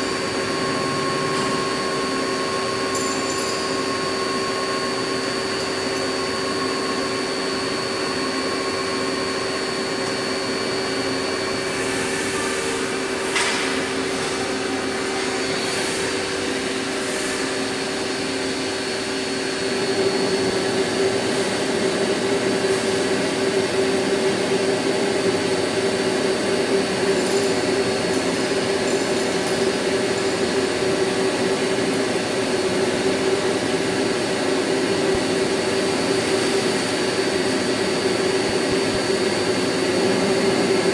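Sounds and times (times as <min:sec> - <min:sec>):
machine tools humming: 0:00.0 - 0:40.9.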